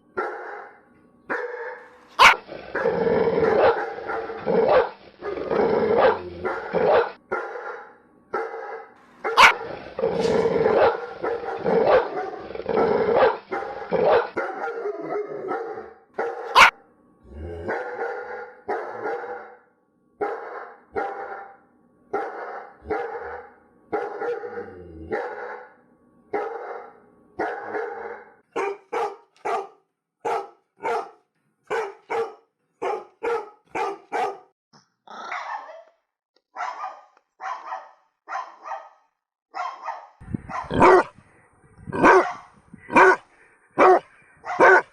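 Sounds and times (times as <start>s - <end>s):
dogs barking: 0.0s - 16.8s, 17.6s - 34.5s, 36.5s - 41.2s, 41.9s - 44.9s.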